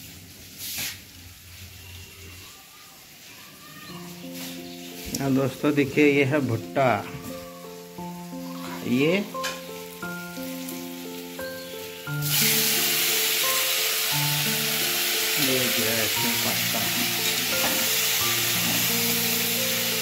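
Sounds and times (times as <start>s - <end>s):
sauce sizzling in pan: 0.0s - 20.0s.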